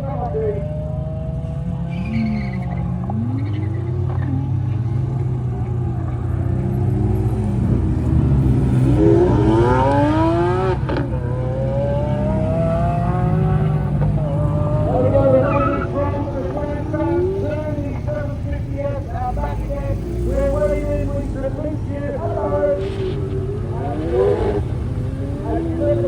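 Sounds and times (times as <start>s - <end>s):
car engines running: 0.0s - 26.0s
engine revving up: 0.0s - 26.0s
steady low drone: 0.0s - 26.0s.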